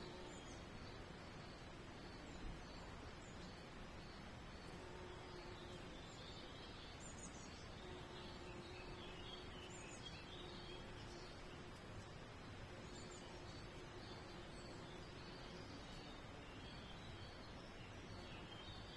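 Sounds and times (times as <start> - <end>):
outdoor background hiss: 0.0 - 18.9
songbirds twittering: 0.0 - 18.9.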